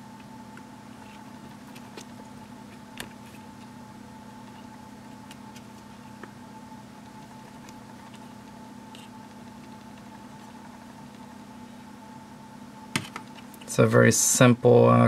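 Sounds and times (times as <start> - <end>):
low electrical hum with whine: 0.0 - 15.0.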